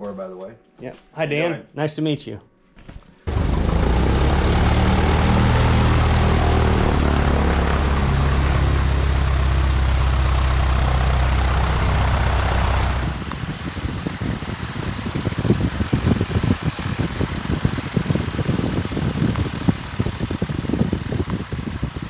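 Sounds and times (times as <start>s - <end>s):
light aircraft engine drone: 3.3s - 22.0s.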